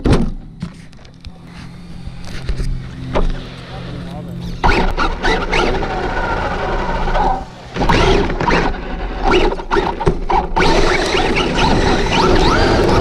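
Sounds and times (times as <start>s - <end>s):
tyre and road noise: 0.0s - 13.0s
electric motor whining: 0.9s - 13.0s.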